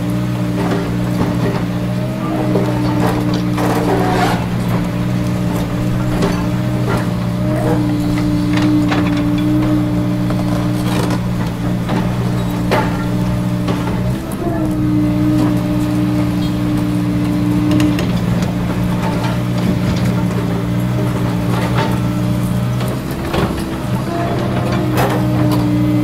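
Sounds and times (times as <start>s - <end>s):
excavator diesel engine: 0.0s - 26.0s
high hydraulic hum: 0.6s - 26.0s.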